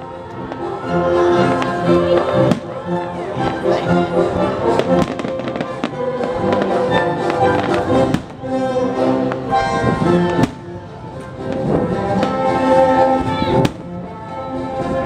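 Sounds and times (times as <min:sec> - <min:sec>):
orchestral music with brass chords: 0:00.0 - 0:15.0.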